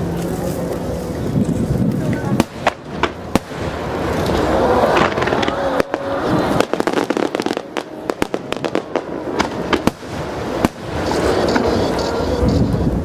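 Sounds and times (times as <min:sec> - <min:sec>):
crowd noise: 0:00.0 - 0:13.0
fireworks bursting: 0:00.0 - 0:13.0.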